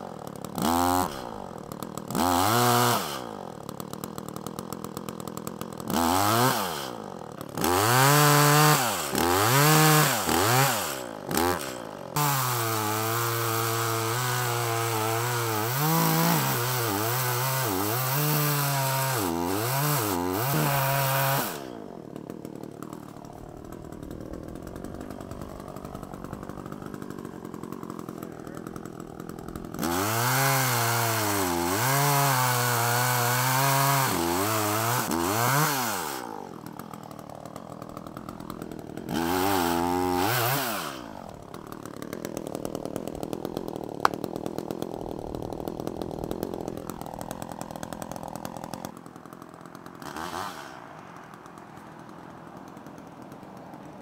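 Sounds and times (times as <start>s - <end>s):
chainsaw cutting tree: 0.0s - 54.0s.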